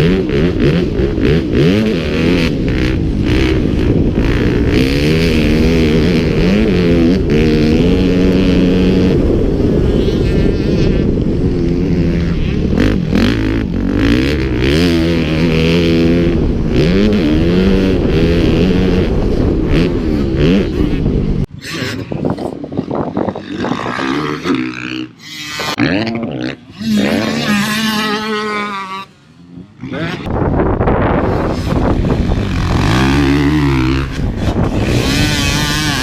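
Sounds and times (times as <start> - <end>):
motocross bike engines revving: 0.0 - 36.0.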